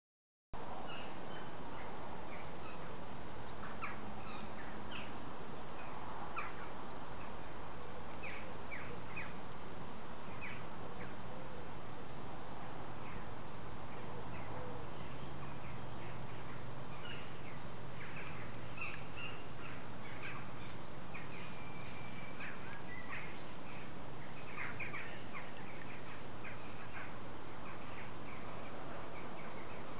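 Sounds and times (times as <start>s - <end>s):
steady background hiss: 0.6s - 29.9s
small birds chirping: 0.9s - 9.4s, 10.2s - 11.3s, 13.0s - 29.9s.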